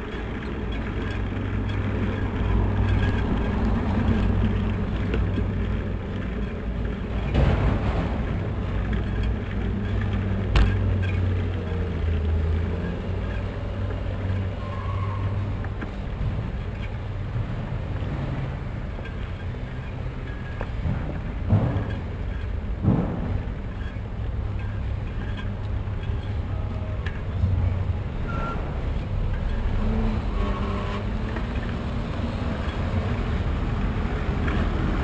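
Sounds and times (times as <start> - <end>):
car traffic rumble: 0.0 - 35.0.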